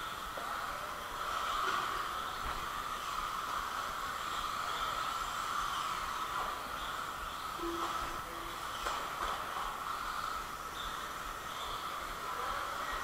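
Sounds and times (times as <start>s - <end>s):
radio-controlled cars whining: 0.0s - 13.0s.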